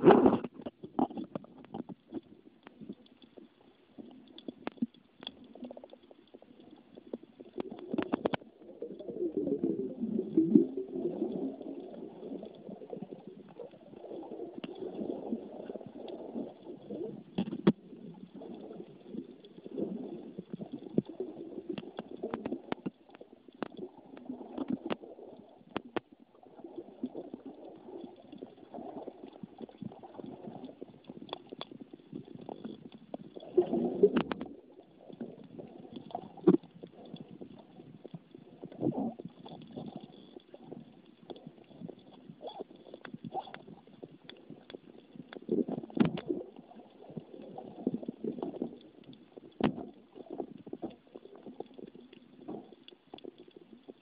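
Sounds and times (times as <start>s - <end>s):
underwater gurgling and bubbling: 0.0s - 54.0s.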